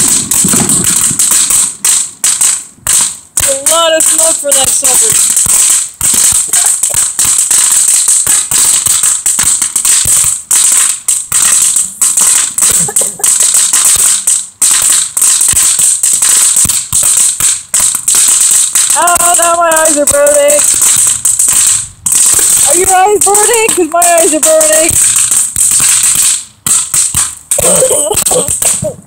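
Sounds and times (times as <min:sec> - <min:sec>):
firework crackling pops: 0:00.0 - 0:29.0
firework hissing: 0:00.0 - 0:29.0.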